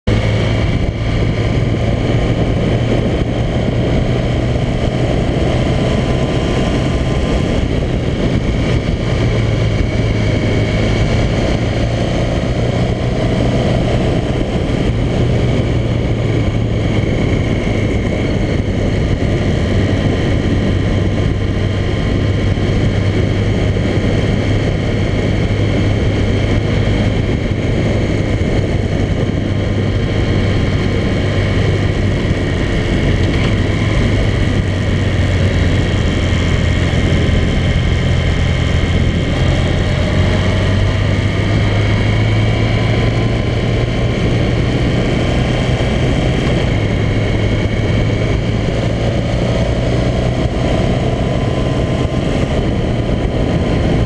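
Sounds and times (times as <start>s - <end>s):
motorcycle engine cruising: 0.0s - 54.0s
road noise: 0.0s - 54.0s
wind noise: 0.0s - 54.0s.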